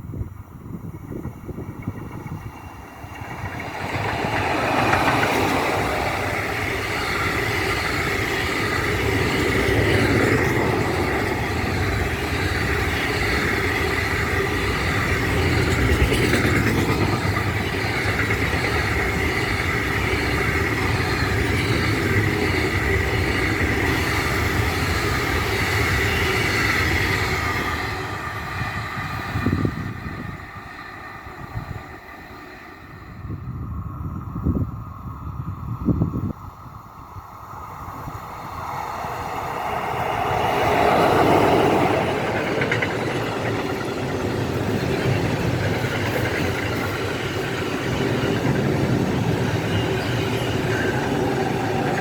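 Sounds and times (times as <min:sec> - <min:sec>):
freight train rolling past: 0:00.0 - 0:52.0
high ringing wheels on rails: 0:00.0 - 0:52.0.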